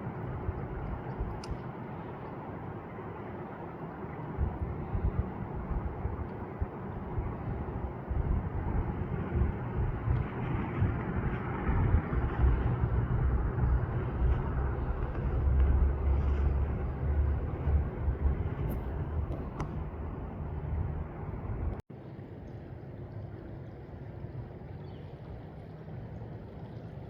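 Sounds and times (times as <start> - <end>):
low rumble: 4.3 - 27.0.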